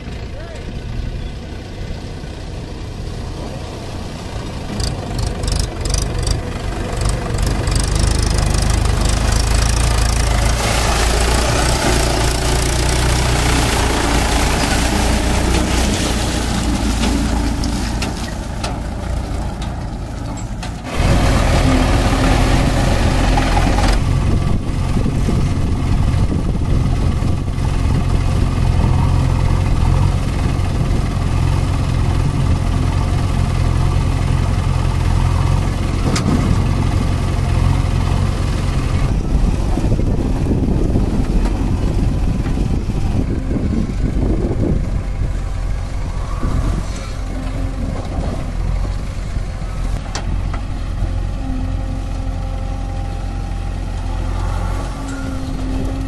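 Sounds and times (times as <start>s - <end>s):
tractor diesel engine: 0.0s - 56.0s
backhoe loader digging: 3.4s - 56.0s.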